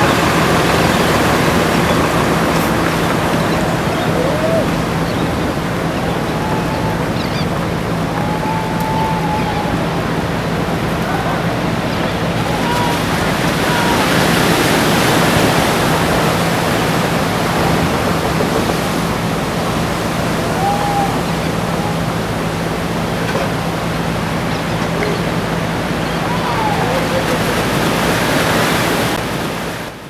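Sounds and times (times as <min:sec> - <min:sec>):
ocean surf breaking: 0:00.0 - 0:30.0.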